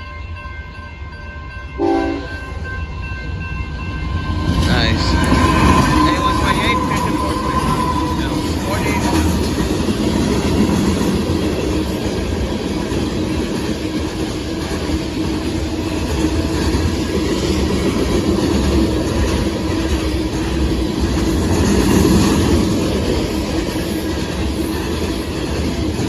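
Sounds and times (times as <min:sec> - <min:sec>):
train wheels rolling on rail: 0:01.0 - 0:26.0.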